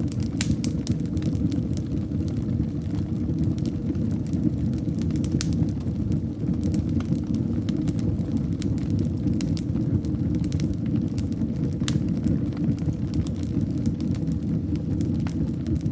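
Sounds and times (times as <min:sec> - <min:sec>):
fire crackling and popping: 0:00.0 - 0:15.9
fire rumbling in fireplace: 0:00.0 - 0:15.9.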